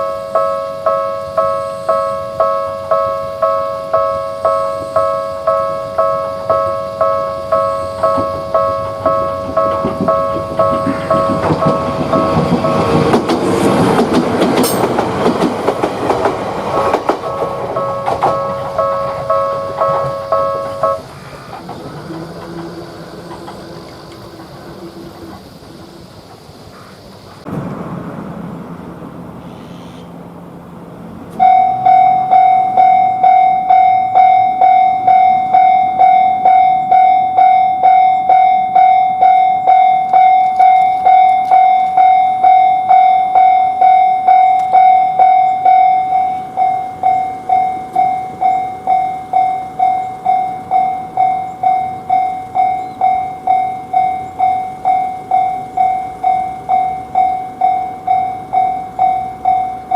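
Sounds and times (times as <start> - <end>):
level crossing warning bell: 0.0 - 24.1, 31.3 - 59.9.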